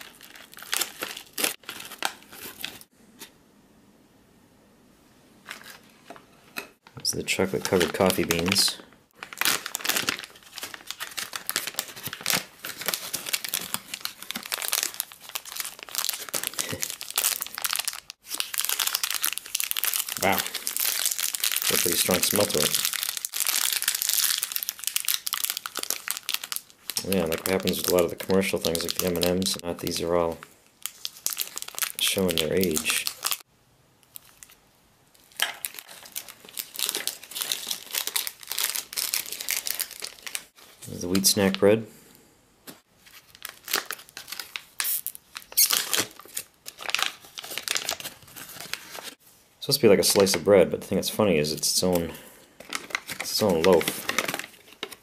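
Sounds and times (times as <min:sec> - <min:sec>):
plastic and foil packaging crinkling: 0:00.0 - 0:02.9, 0:07.4 - 0:33.4, 0:34.0 - 0:34.6, 0:35.2 - 0:41.6, 0:43.0 - 0:49.2, 0:51.6 - 0:55.0.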